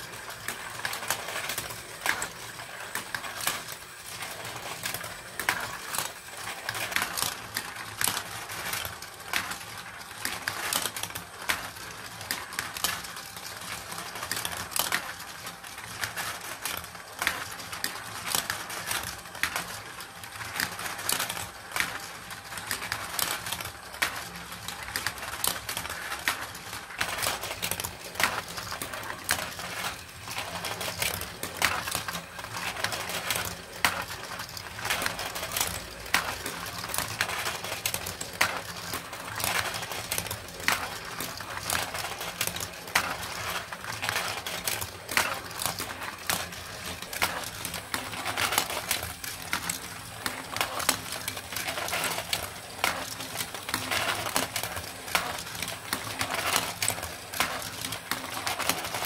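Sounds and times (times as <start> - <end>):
marbles clicking on plastic: 0.0 - 59.0
marbles rolling on plastic tracks: 0.0 - 59.0.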